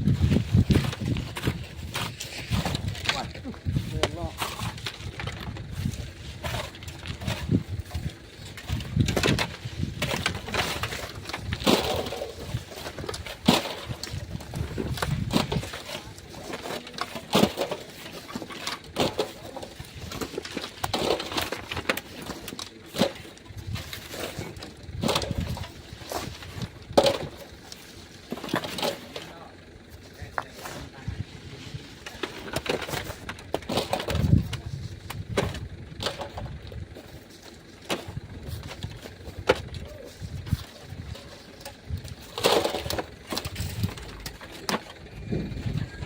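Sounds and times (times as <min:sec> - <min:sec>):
tool scraping and digging sand: 0:00.0 - 0:46.0.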